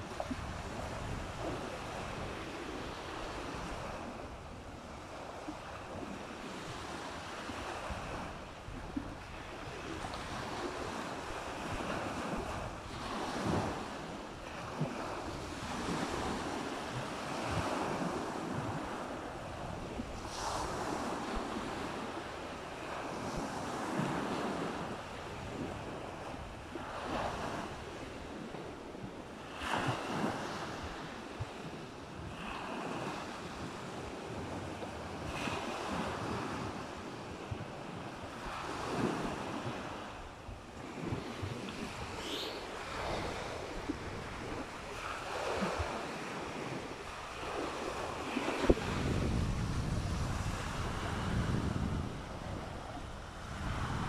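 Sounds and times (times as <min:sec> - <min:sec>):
waves washing onto beach: 0:00.0 - 0:54.0
wind buffeting microphone: 0:00.0 - 0:54.0.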